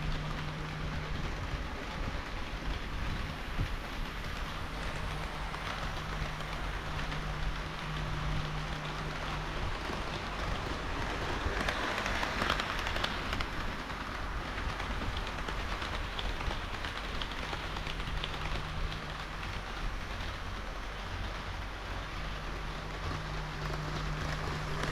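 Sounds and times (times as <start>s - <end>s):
low hum: 0.0s - 24.9s
model train wheels rattling: 0.0s - 24.9s
ticks at rail joints: 0.0s - 24.9s.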